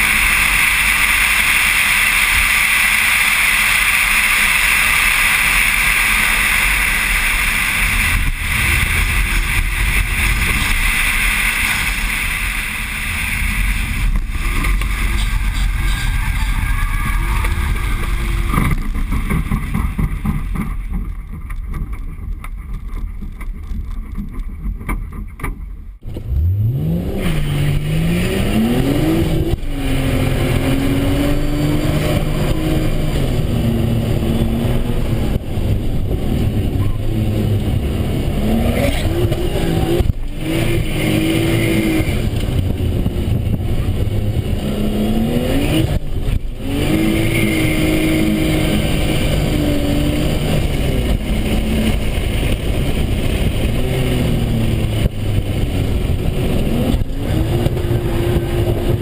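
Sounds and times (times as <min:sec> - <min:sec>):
car engine revving: 0:00.0 - 0:22.0, 0:26.0 - 0:59.0
wind and road noise: 0:00.0 - 0:59.0.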